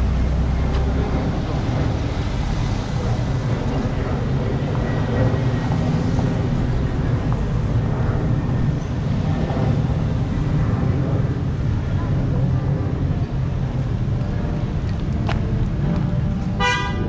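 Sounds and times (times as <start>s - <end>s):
car traffic rumble: 0.0s - 17.0s.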